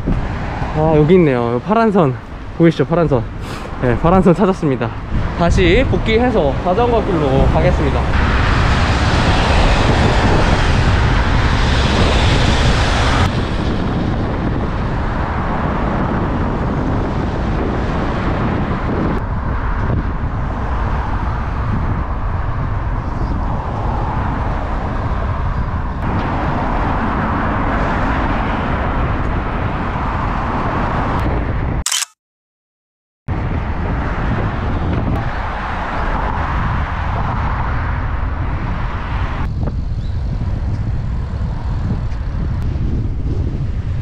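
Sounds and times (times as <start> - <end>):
wind rushing over microphone: 0.0 - 31.8, 33.3 - 44.0
road noise: 0.0 - 32.1, 33.3 - 44.0.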